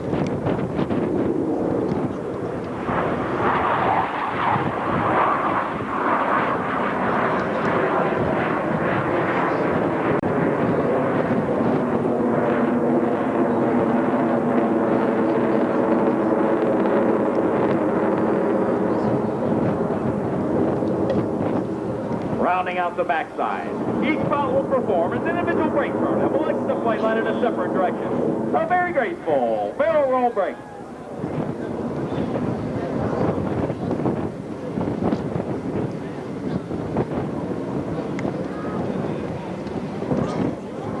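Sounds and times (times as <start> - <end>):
jet engines roaring past: 0.0 - 41.0.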